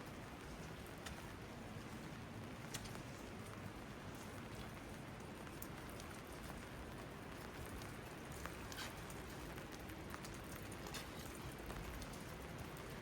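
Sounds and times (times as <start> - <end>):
raindrops ticking close by: 0.0 - 13.0
steady rain: 0.0 - 13.0.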